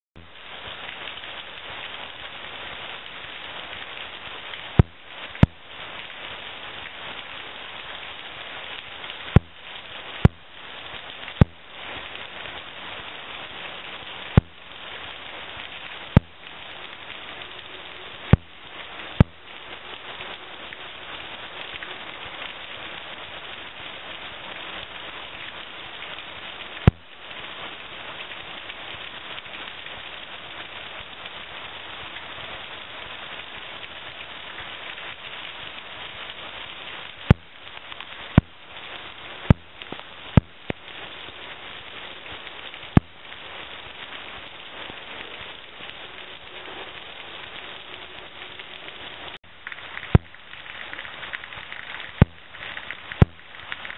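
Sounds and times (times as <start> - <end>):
heavy rain hissing: 0.2 - 53.9.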